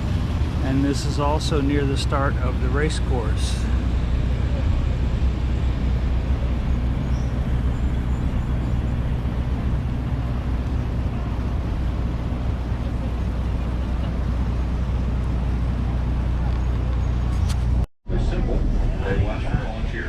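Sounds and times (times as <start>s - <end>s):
riverboat engine drone: 0.0s - 20.0s.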